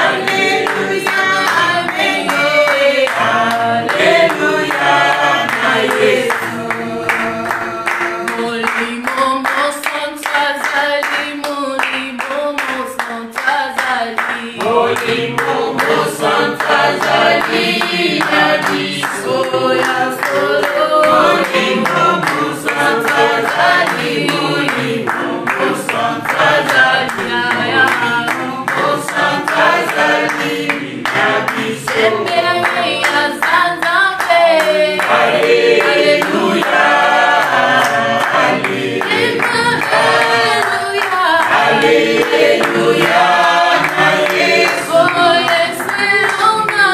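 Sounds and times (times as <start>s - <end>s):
group singing a worship song: 0.0s - 46.9s
hands clapping in time: 0.0s - 46.9s.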